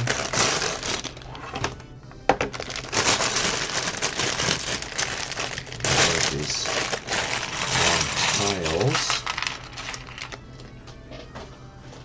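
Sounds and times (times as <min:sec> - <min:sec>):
plastic pieces rattling and clicking: 0:00.0 - 0:12.0.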